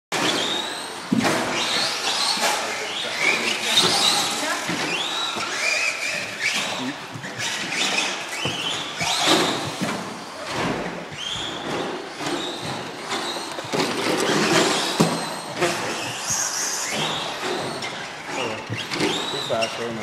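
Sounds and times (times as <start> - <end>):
toy truck electric motor whining: 0.2 - 10.4, 11.2 - 19.6.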